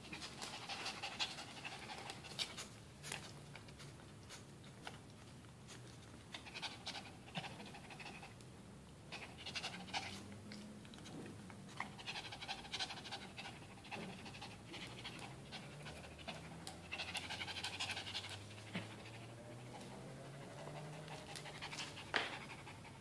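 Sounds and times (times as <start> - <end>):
dog panting: 0.0 - 4.5, 5.7 - 8.4, 9.1 - 23.0.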